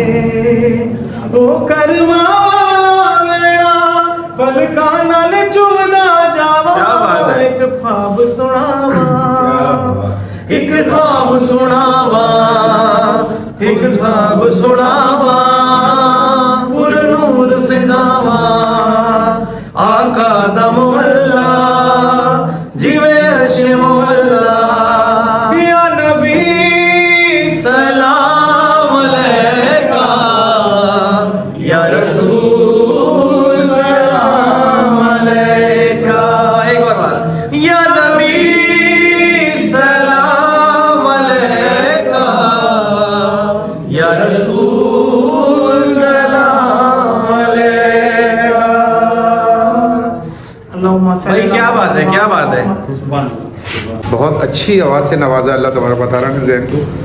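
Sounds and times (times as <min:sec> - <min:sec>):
man singing unaccompanied: 0:00.0 - 0:52.8.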